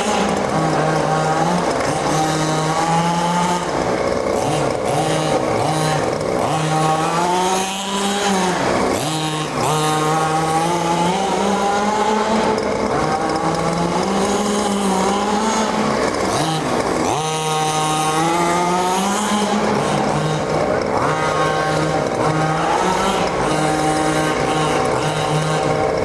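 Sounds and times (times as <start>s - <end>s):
rc car two-stroke engine revving: 0.0s - 26.0s.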